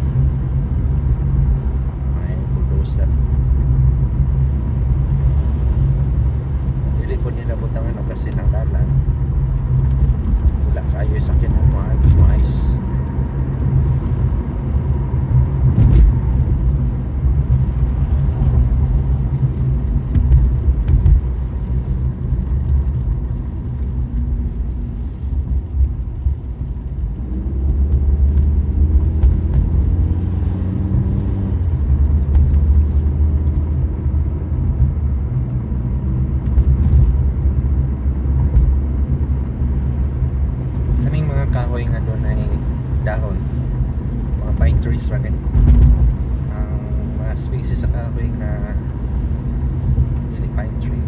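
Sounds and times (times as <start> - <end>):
car engine rumble: 0.0 - 51.0
road noise: 0.0 - 51.0.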